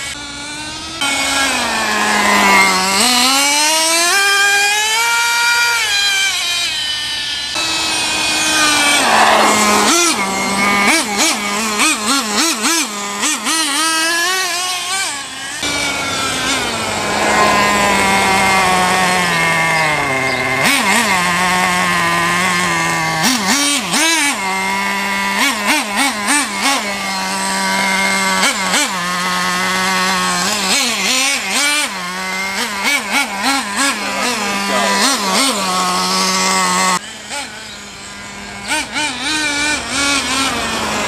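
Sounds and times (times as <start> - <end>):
small engine revving: 0.0 - 41.0.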